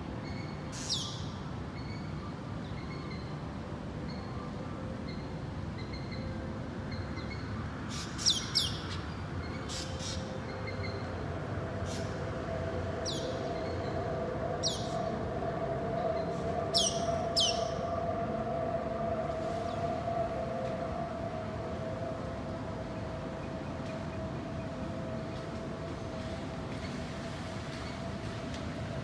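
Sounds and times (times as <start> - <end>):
distant city hum: 0.0 - 29.0.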